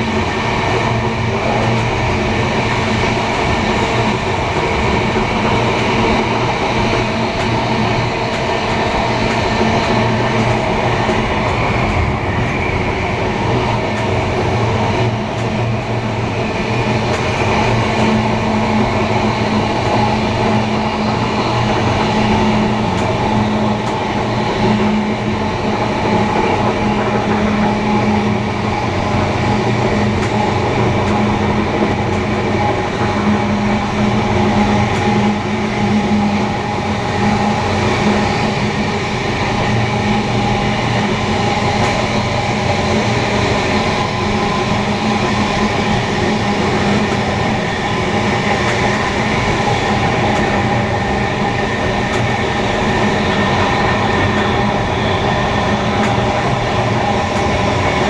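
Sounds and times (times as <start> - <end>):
train rail rumble: 0.0 - 58.0.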